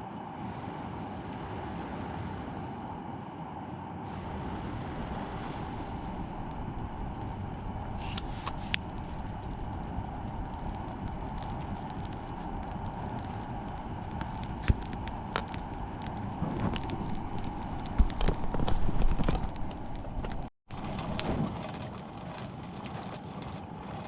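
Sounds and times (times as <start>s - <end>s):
campfire burning: 0.0s - 24.0s
crackling pops of fire: 4.1s - 24.0s.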